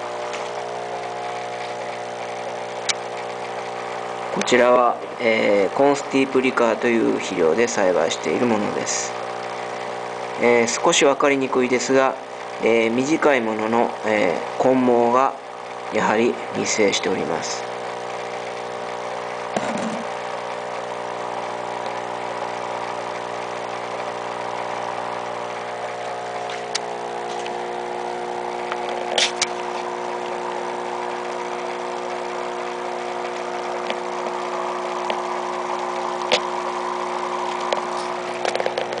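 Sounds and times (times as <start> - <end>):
small motor humming: 0.0 - 6.0, 8.1 - 10.6, 13.8 - 39.0.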